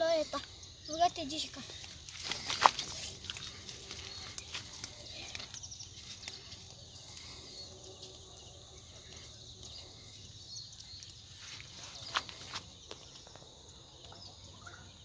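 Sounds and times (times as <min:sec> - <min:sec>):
birds calling: 0:00.0 - 0:15.0
insects: 0:00.0 - 0:15.0.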